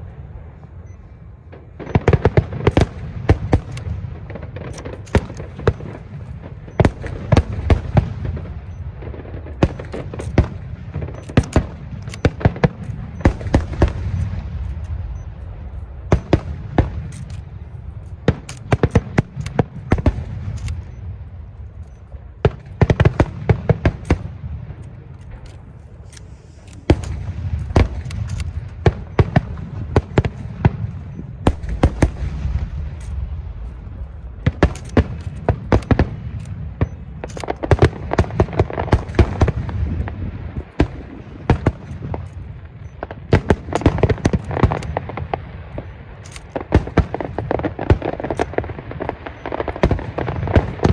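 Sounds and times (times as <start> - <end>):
fireworks cracking and crackling: 1.5 - 50.9.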